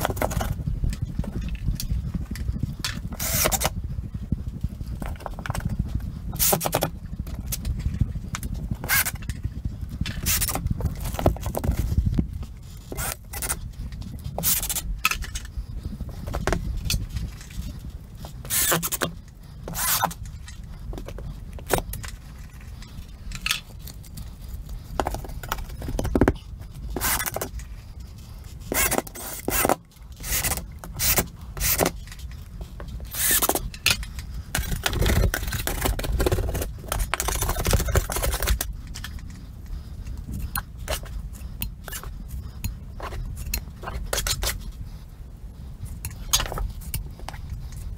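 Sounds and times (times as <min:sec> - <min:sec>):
tools scraping drywall: 0:00.0 - 0:03.8, 0:04.9 - 0:44.9
steady low rumble: 0:00.0 - 0:47.9.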